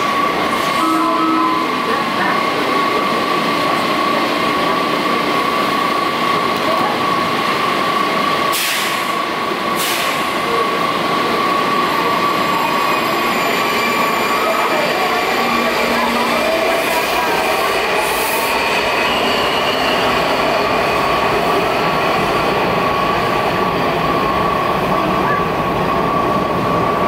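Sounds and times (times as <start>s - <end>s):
train pulling away: 0.0s - 25.1s
train and station rumble: 0.0s - 27.0s.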